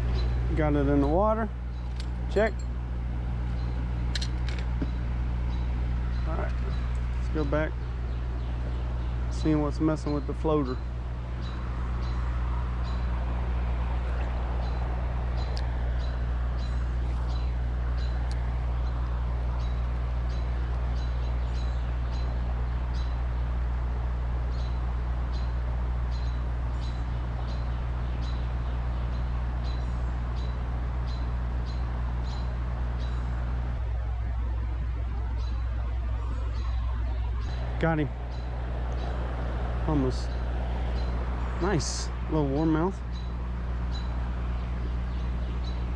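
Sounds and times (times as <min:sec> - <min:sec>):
low mechanical hum: 0:00.0 - 0:45.9
bird chirping: 0:04.8 - 0:13.3, 0:13.9 - 0:23.3, 0:24.5 - 0:33.6, 0:35.2 - 0:45.9.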